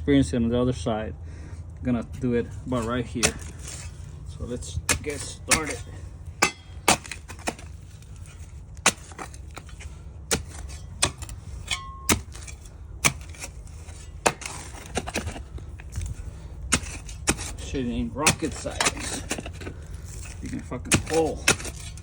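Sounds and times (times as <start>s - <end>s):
shovel chopping into ground: 2.7s - 22.0s.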